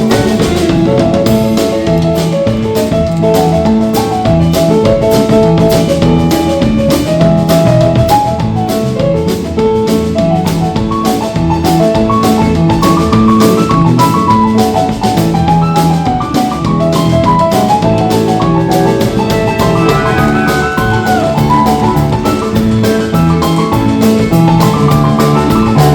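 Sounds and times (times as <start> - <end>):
bass line: 0.0 - 25.9
drum kit beat: 0.0 - 25.9
piano playing quick runs: 0.0 - 25.9.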